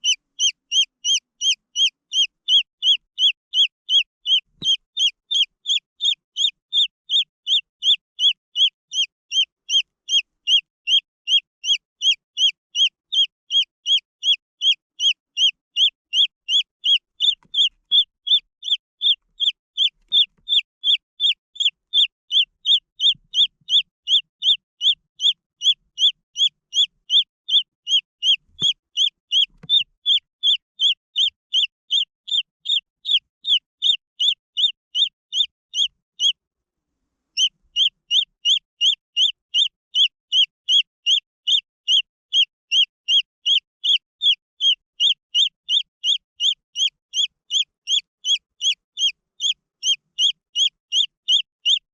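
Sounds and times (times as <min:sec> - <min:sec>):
chick peeping: 0:00.0 - 0:36.4, 0:37.4 - 0:51.8.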